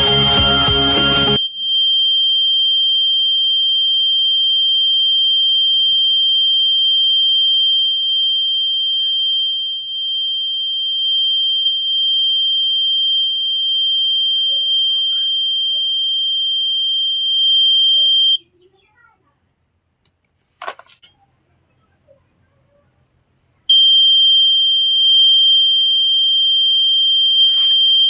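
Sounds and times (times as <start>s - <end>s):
alarm buzzer high-pitched tone: 0.0s - 18.4s, 23.7s - 28.0s.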